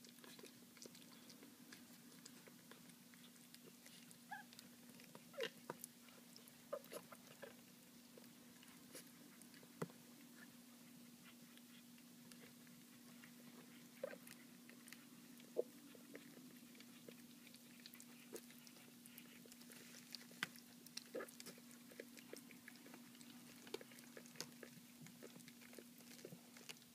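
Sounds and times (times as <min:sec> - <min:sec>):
puppy eating with mouth smacks: 0:00.0 - 0:26.9.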